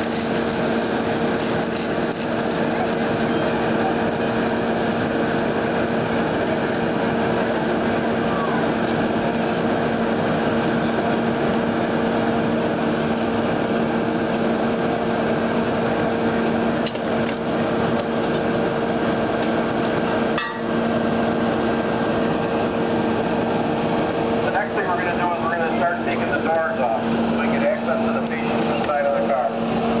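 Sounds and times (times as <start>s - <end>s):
hydraulic power unit humming: 0.0s - 30.0s.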